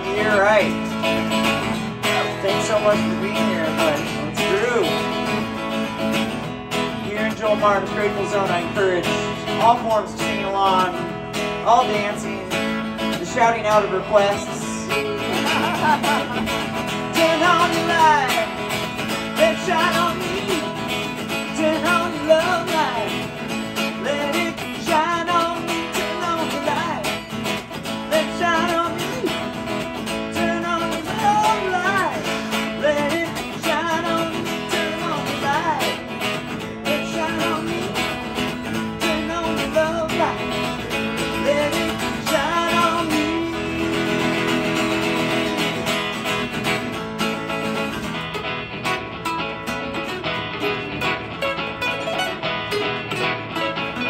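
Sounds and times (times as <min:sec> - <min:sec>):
lead guitar melody with bending notes: 0:00.0 - 0:54.0
strummed acoustic guitar: 0:00.0 - 0:54.0.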